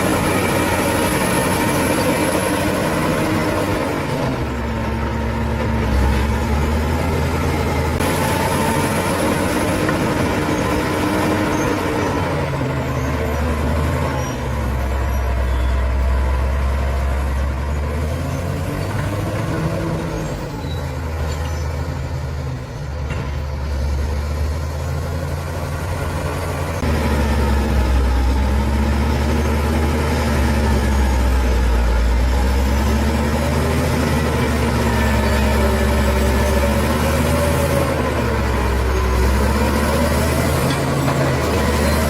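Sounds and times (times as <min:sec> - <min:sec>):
bulldozer diesel engine: 0:00.0 - 0:42.0.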